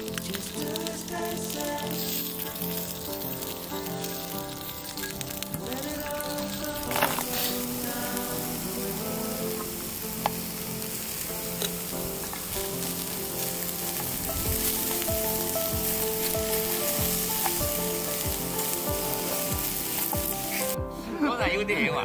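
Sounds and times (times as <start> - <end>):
food sizzling in a frying pan: 0.0 - 20.8
background music of held notes: 0.0 - 22.0.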